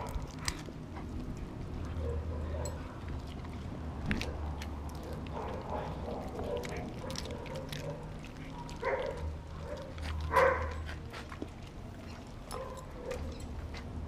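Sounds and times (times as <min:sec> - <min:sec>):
dogs' teeth clicking: 0:00.0 - 0:14.0.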